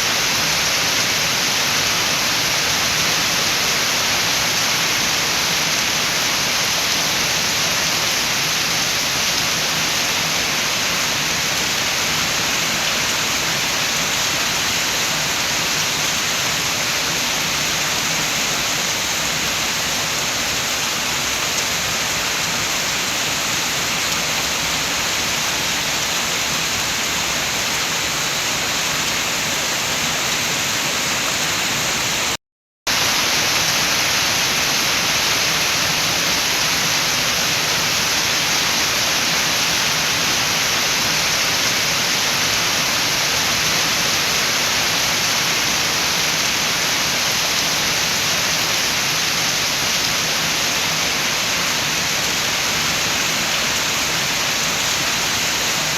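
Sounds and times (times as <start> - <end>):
steady rain: 0.0 - 55.9
wind: 0.0 - 55.9.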